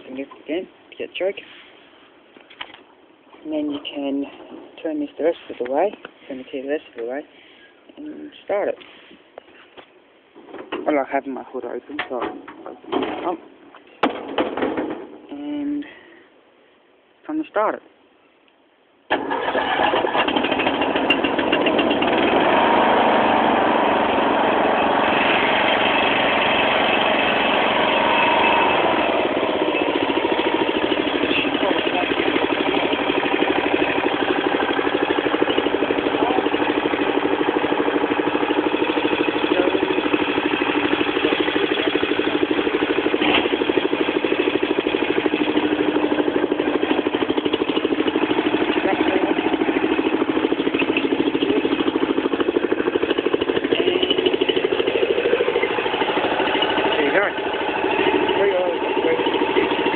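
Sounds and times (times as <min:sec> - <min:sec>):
mower engine starting and running: 0:02.4 - 0:07.6, 0:10.4 - 0:15.2, 0:19.1 - 0:59.9.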